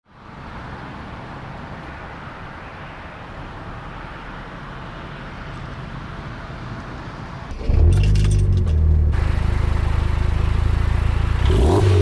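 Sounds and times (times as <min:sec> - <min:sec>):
car engine and road rumble: 0:00.1 - 0:12.0.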